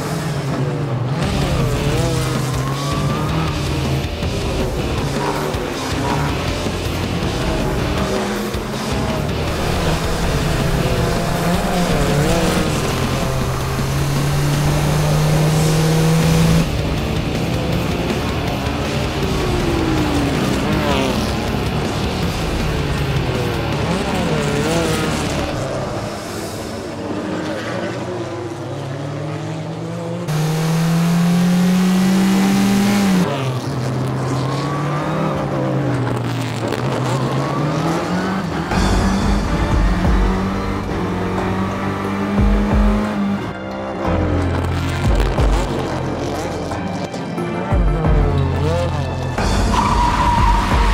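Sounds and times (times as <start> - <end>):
background music: 0.0 - 50.9
race car engines: 0.0 - 50.9.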